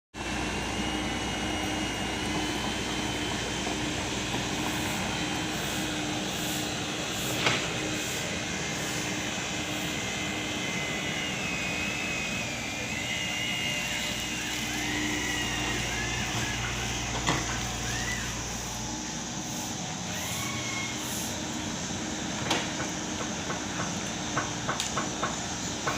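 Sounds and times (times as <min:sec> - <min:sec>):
high wavering whine: 0:00.2 - 0:22.4
excavator engine running: 0:00.2 - 0:25.9.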